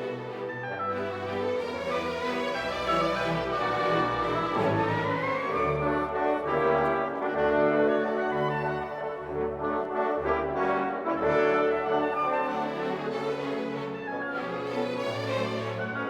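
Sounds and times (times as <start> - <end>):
orchestral music with brass chords: 0.0 - 16.0.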